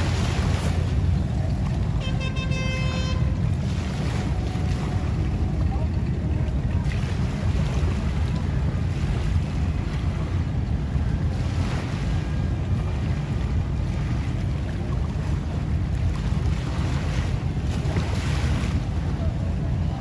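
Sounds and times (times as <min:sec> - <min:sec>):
water splashing around boats: 0:00.0 - 0:20.0
wind buffeting microphone: 0:00.0 - 0:20.0.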